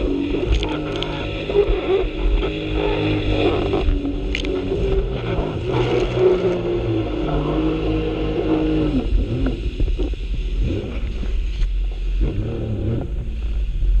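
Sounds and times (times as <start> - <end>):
jet ski engine revving: 0.0 - 14.0
wind rumble on microphone: 0.0 - 14.0.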